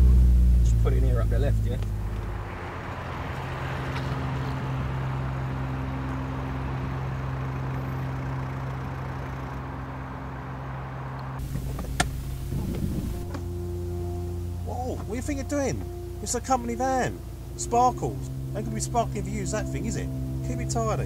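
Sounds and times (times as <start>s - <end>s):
van engine running at low revs: 0.0s - 21.0s.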